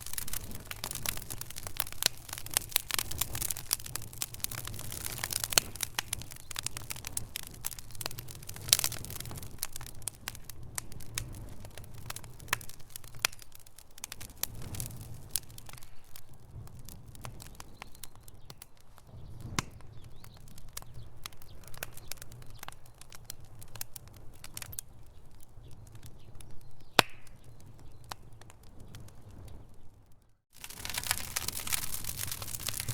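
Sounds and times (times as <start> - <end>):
fire crackling and popping: 0.0 - 32.9
low fire rumble: 0.0 - 32.9.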